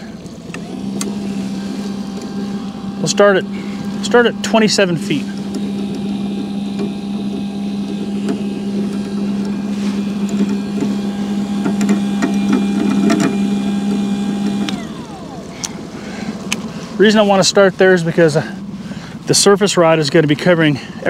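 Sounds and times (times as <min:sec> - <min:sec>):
electric motor running: 0:00.0 - 0:20.1.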